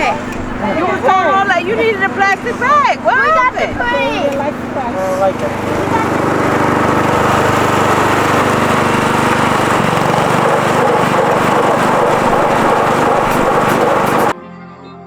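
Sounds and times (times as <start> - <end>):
small engine running: 0.0 - 14.4.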